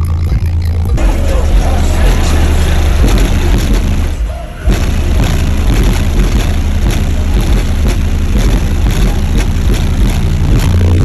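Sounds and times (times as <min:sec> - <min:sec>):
loud bass-heavy music: 0:00.0 - 0:11.0.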